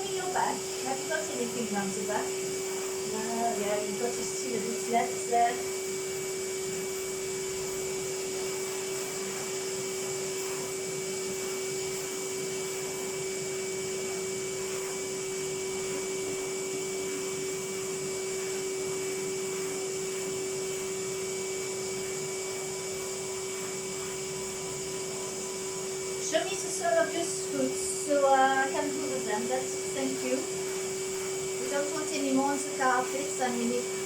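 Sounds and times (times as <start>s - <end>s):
vacuum cleaner whining: 0.0s - 34.0s.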